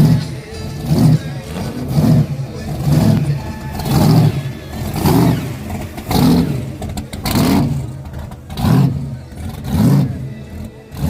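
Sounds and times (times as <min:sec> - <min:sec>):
car engine revving in blips: 0:00.0 - 0:11.0.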